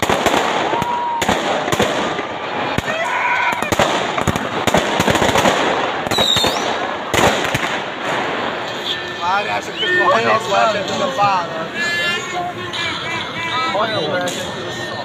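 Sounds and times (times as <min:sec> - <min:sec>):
fireworks bangs and crackles: 0:00.0 - 0:13.4
fireworks whistling: 0:00.0 - 0:15.0.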